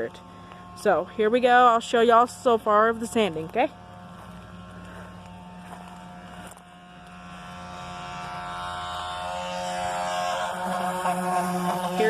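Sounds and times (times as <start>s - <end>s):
power sander running: 0.0s - 12.0s.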